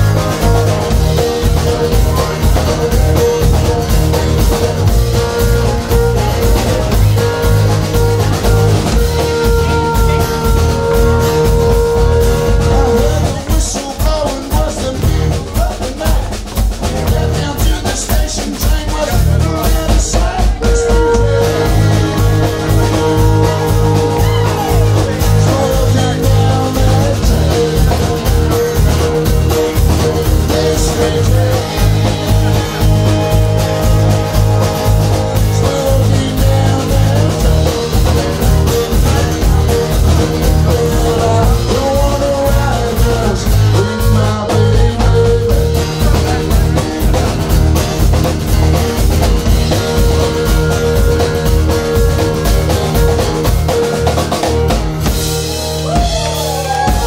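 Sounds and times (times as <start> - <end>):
harmonica wailing: 0.0 - 13.5, 20.4 - 57.0
strummed acoustic guitar: 0.0 - 56.0
drum kit beat: 0.0 - 57.0
electric bass: 0.0 - 57.0.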